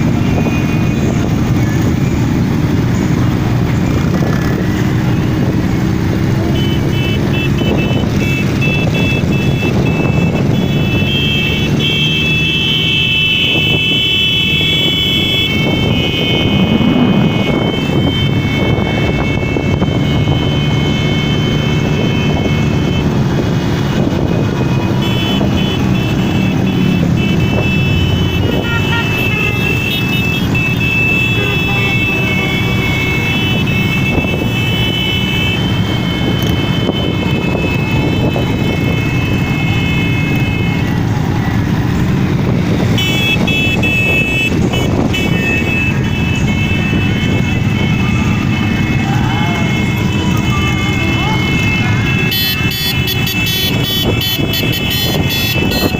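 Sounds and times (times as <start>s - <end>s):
motorcycle engines rumbling: 0.0s - 55.9s
high-pitched horn-like tone: 6.5s - 23.1s, 24.6s - 40.9s, 43.0s - 55.9s.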